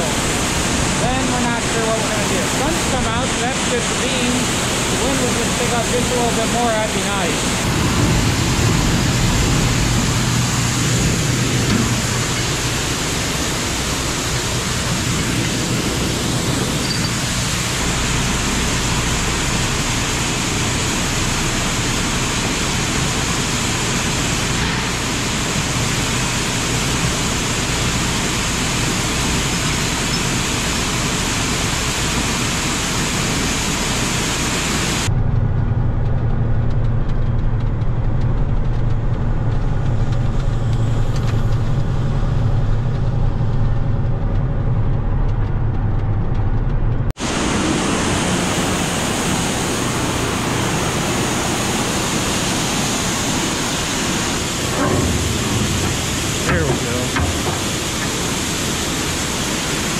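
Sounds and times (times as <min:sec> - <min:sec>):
truck diesel engine humming: 0:00.0 - 0:59.9.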